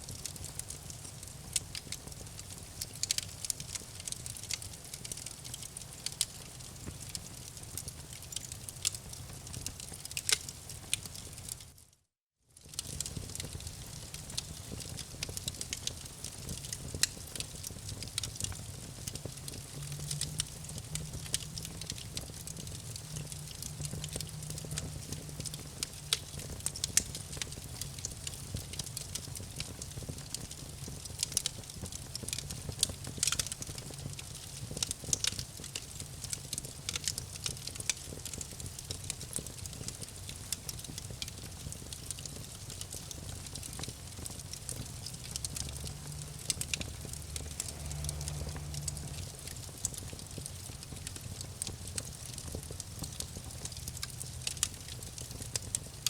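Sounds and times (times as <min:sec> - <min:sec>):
campfire crackling: 0:00.1 - 0:11.7, 0:12.6 - 0:56.0
low fire rumble: 0:00.1 - 0:11.7, 0:12.6 - 0:56.0.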